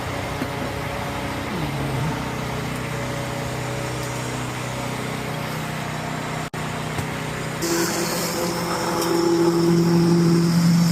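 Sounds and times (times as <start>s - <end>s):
truck engine running: 0.0s - 10.9s.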